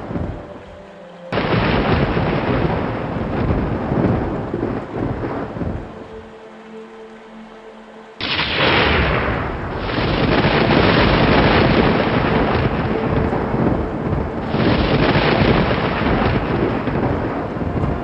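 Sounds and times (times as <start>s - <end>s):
thunder rolling: 0.0s - 0.7s, 1.3s - 6.2s, 8.2s - 18.0s.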